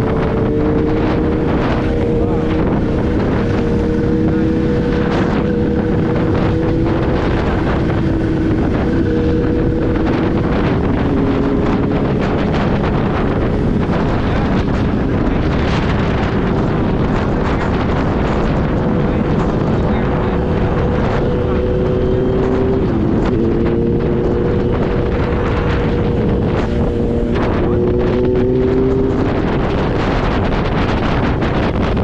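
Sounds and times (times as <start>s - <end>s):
motorcycle engine cruising: 0.0s - 32.0s
wind noise on microphone: 0.0s - 32.0s.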